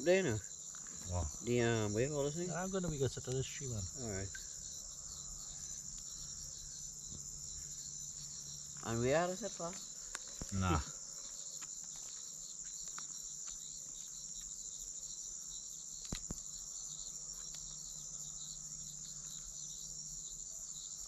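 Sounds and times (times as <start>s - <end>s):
insect chorus pulsing: 0.0s - 21.0s.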